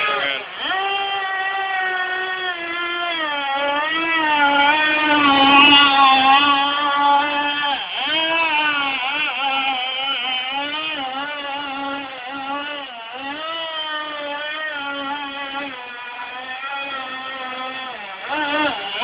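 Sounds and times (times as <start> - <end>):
small engine buzzing at high revs: 0.0 - 19.0.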